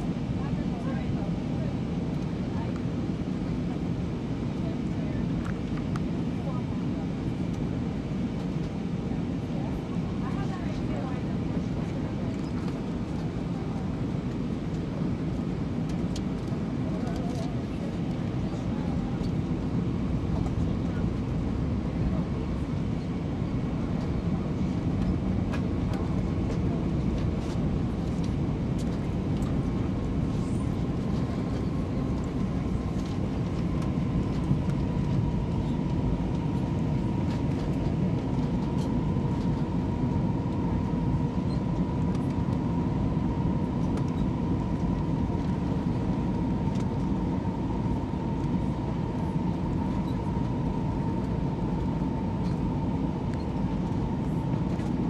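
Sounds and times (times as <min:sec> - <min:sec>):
airplane cabin rumble: 0:00.0 - 0:55.0
steady engine whine: 0:00.0 - 0:55.0.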